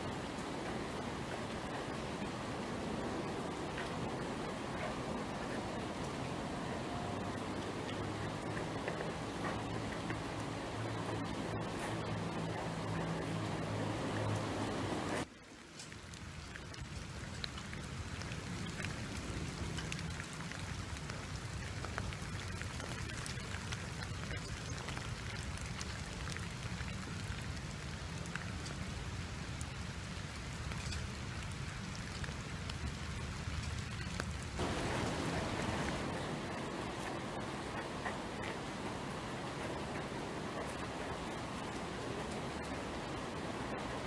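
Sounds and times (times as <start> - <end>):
rain on wet pavement: 0.0 - 44.0.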